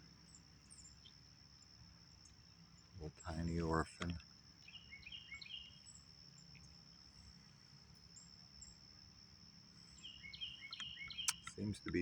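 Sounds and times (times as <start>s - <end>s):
crickets trilling: 0.0s - 12.0s
insect chirp: 0.0s - 12.0s.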